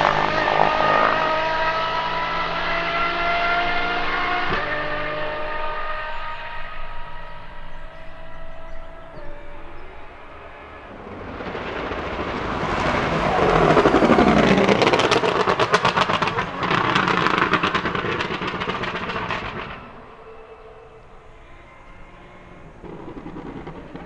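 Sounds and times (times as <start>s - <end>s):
exhaust crackles and pops: 0.0s - 20.3s, 22.6s - 24.0s
car engine passing by: 0.0s - 21.3s.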